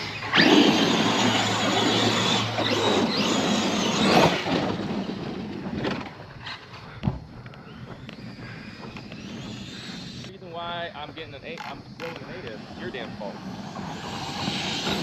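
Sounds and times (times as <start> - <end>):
electric motor whine: 0.0 - 5.5, 6.6 - 10.4, 11.4 - 15.0
tyre and drivetrain noise: 0.0 - 10.3, 11.4 - 15.0.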